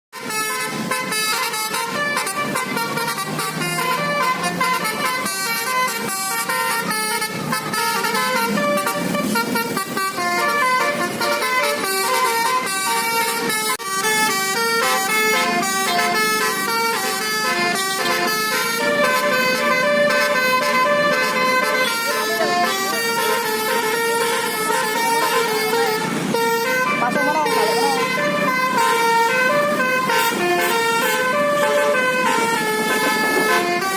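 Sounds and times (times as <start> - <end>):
multi-tone musical air horn: 0.1 - 33.9.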